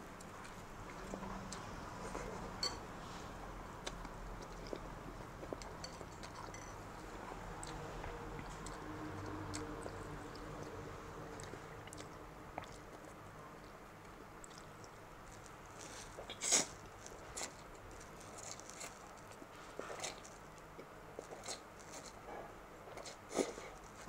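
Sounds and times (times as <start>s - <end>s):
person chewing noodles: 3.8s - 22.2s, 22.8s - 24.0s.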